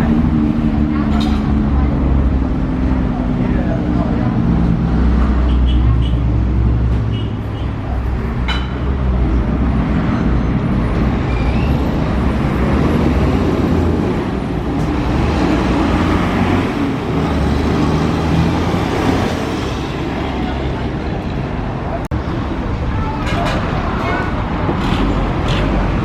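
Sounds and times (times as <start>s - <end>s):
tyre and road noise: 0.0s - 26.0s.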